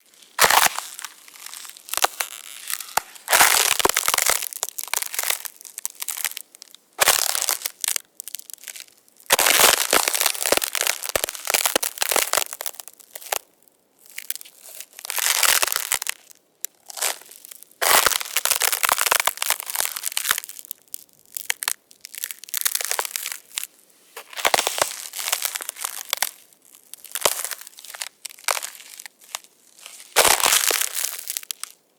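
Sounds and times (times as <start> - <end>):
ice crunching and cracking: 0.0 - 31.8.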